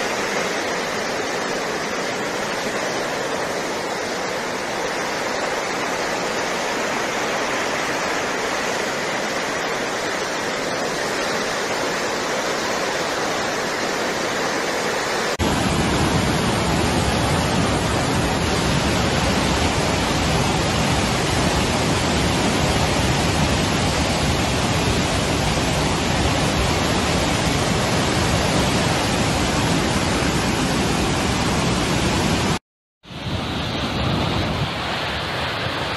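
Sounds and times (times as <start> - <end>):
floodwater rushing: 0.0 - 35.9.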